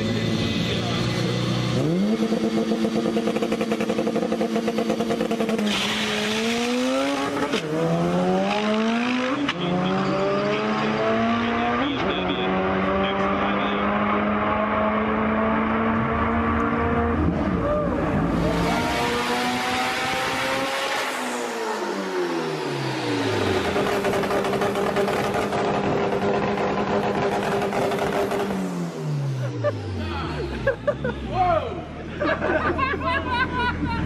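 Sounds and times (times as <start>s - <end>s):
race car engine revving and accelerating: 0.0s - 31.3s.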